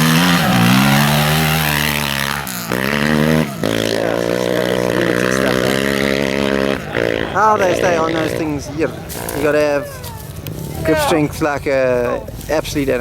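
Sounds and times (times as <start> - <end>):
quad bike engine revving high: 0.0 - 13.0.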